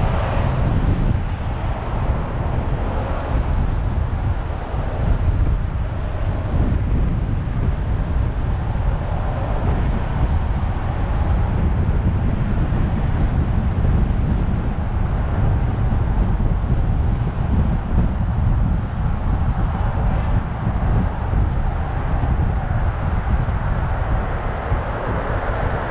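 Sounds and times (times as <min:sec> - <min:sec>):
car road and wind noise: 0:00.0 - 0:25.9.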